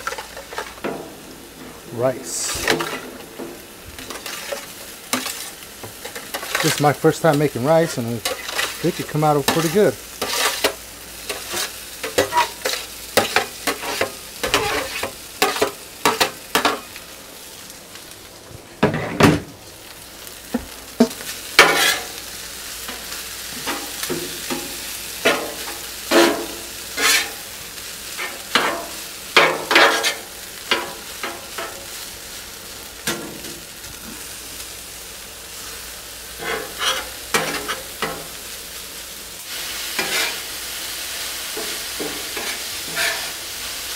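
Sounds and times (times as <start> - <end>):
rice sizzling on a griddle: 0.0 - 43.9.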